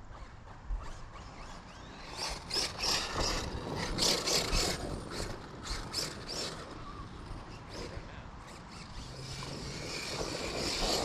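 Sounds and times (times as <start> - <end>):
toy truck tyres scrabbling on dirt: 0.0 - 11.0.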